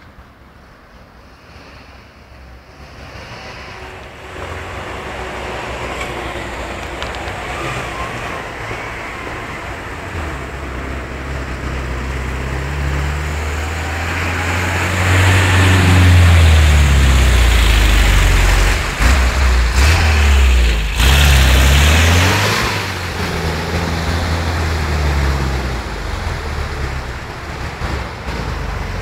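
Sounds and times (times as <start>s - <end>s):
off-road truck engine passing: 0.0s - 29.0s.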